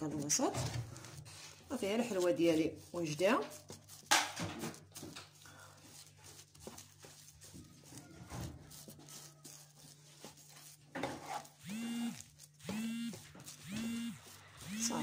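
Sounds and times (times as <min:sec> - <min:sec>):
wooden spatula scraping dough in pan: 0:00.0 - 0:15.0.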